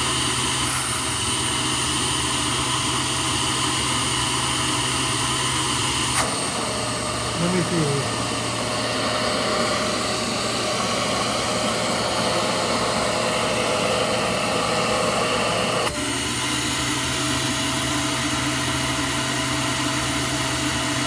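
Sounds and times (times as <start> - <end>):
vacuum cleaner motor running: 0.0 - 21.0.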